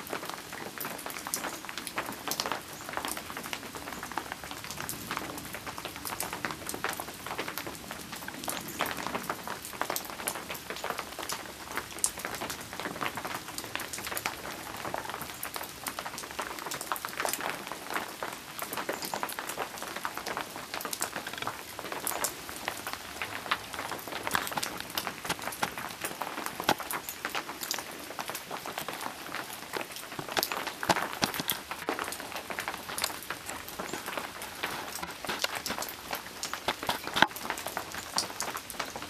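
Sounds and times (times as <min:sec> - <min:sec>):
rain drops pattering: 0:00.0 - 0:39.0.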